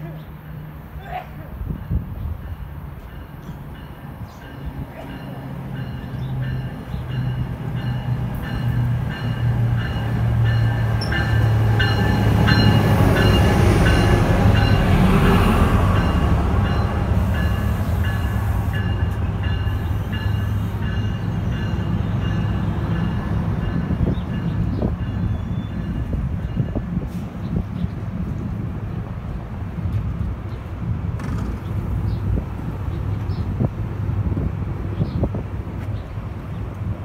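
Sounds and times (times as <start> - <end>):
diesel locomotive passing: 0.0 - 37.0
train cars rumbling: 0.0 - 37.0.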